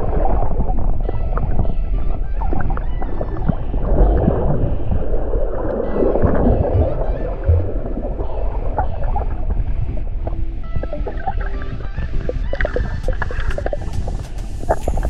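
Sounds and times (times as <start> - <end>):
low rumbling and gurgling: 0.0 - 15.0
underwater rush of water: 0.0 - 15.0.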